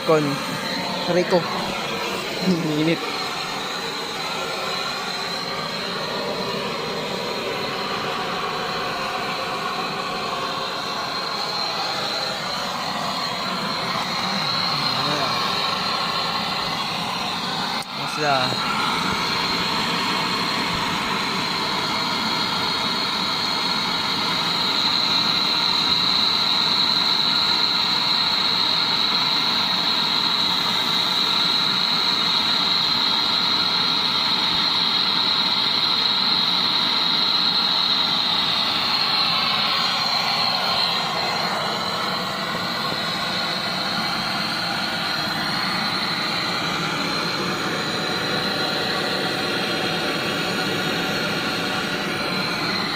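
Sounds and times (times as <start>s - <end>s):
torch flame hissing: 0.0s - 52.9s.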